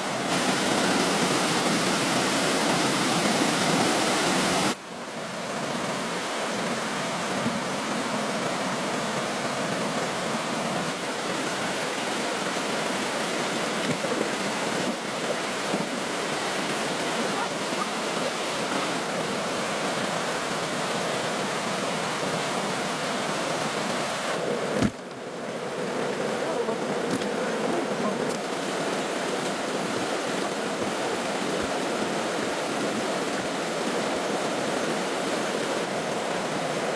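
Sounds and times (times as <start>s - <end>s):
rushing water: 0.0s - 36.9s.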